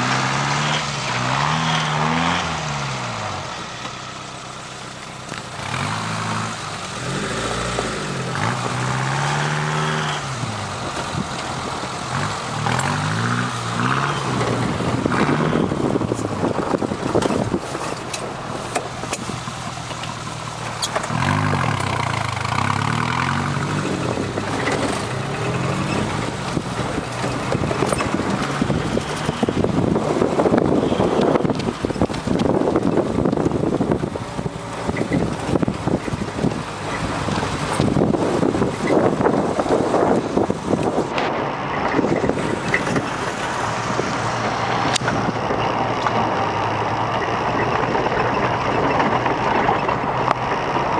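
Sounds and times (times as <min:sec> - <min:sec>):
car engine revving: 0:00.0 - 0:50.9
rough rushing noise: 0:00.0 - 0:50.9.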